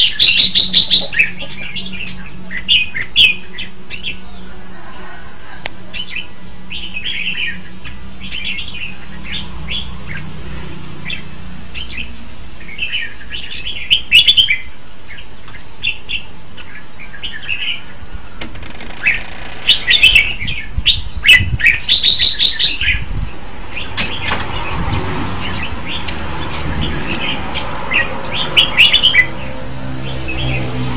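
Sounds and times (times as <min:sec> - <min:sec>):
bulbuls singing warbled phrases: 0:00.0 - 0:04.9, 0:05.8 - 0:30.6.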